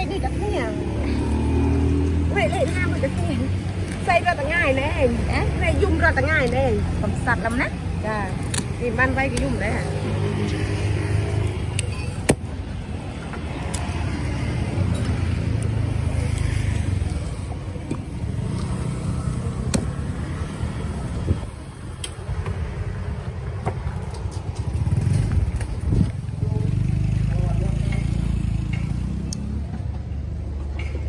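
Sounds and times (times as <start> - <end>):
street traffic: 0.0 - 31.0
vehicle engine rumbling: 0.0 - 31.0.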